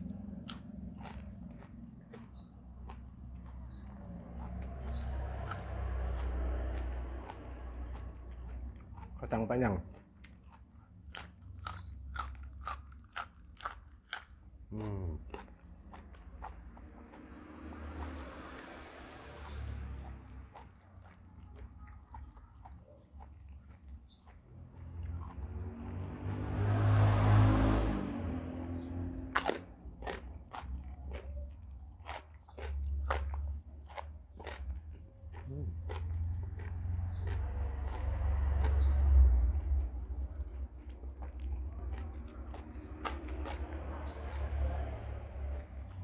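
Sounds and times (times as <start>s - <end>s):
crunching and chewing beans: 0.0s - 46.0s.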